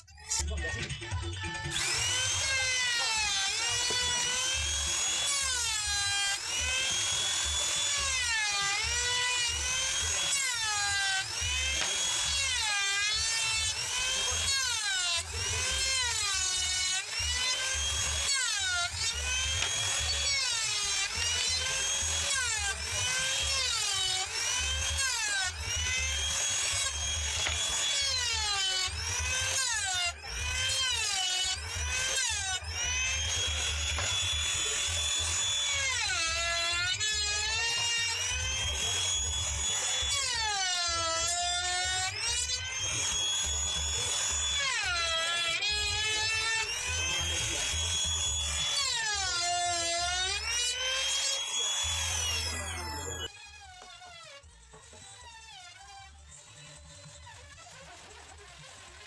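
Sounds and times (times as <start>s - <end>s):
wood router cutting wood: 0.0s - 59.0s.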